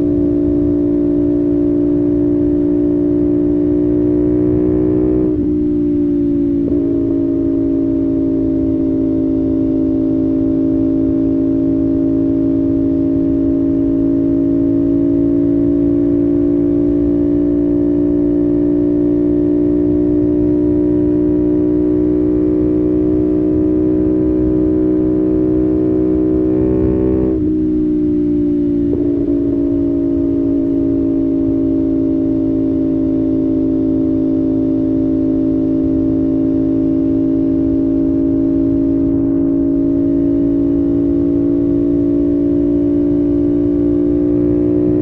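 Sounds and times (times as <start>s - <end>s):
motorcycle engine high-rpm drone: 0.0s - 45.0s.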